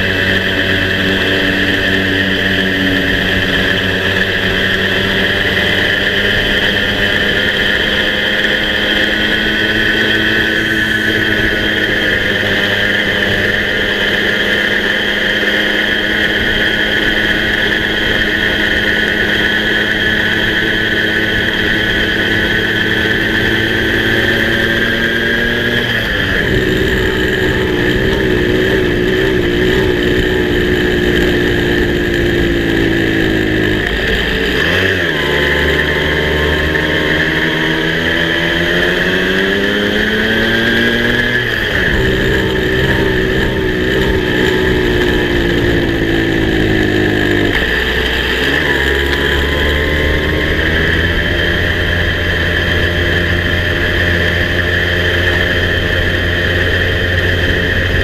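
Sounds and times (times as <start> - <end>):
moped engine running: 0.0 - 58.0
wind and road noise: 0.0 - 58.0.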